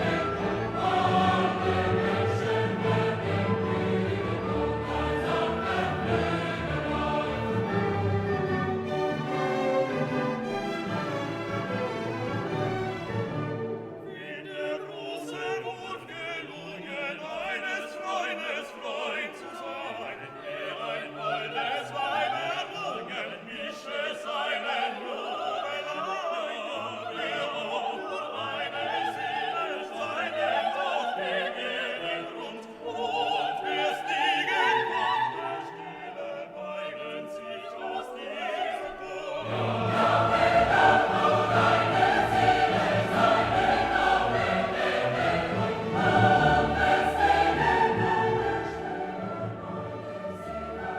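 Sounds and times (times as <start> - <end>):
orchestral and choral music: 0.0 - 50.9.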